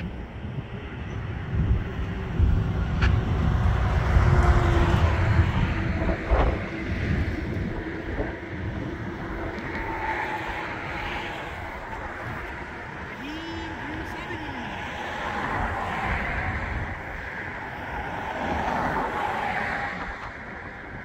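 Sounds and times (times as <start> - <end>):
distant traffic rumble: 0.0 - 21.0
wind buffeting microphone: 0.0 - 21.0.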